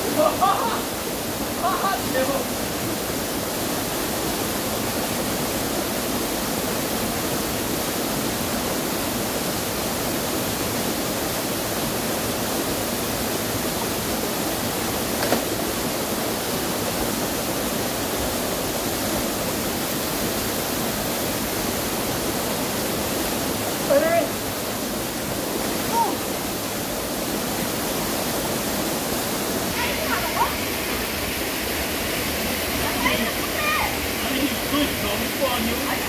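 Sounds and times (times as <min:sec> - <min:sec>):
small waterfall rushing: 0:00.0 - 0:36.0.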